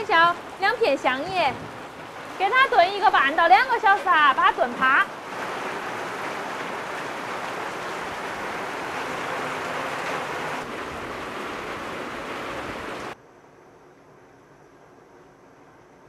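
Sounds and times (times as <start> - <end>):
steady rain falling: 0.0 - 13.2.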